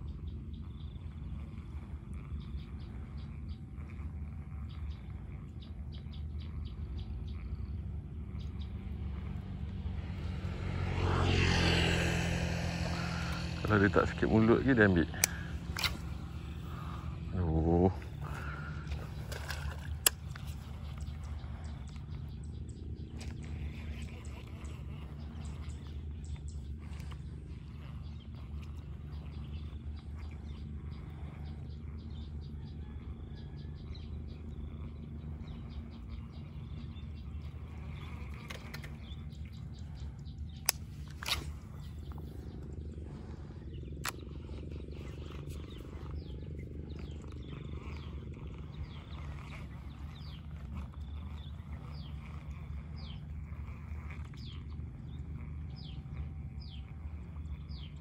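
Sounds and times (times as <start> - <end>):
birds chirping: 0.0 - 58.0
steady low rumble: 0.0 - 58.0.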